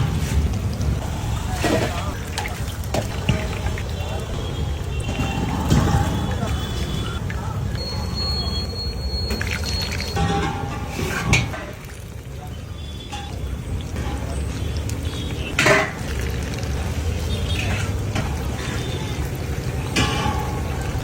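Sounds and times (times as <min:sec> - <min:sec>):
metal pans and utensils: 0:00.0 - 0:21.0
oil frying: 0:00.0 - 0:21.0.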